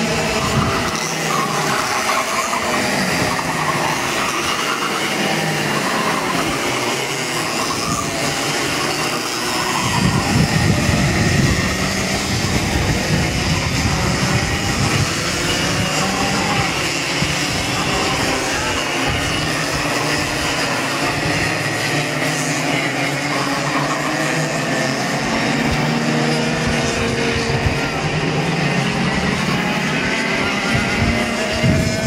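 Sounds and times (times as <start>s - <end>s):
racing kart engines: 0.0s - 32.0s.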